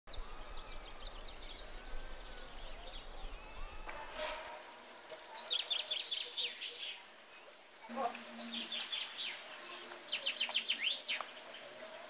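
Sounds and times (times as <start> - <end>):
songbirds singing: 0.1 - 4.0, 4.6 - 12.0.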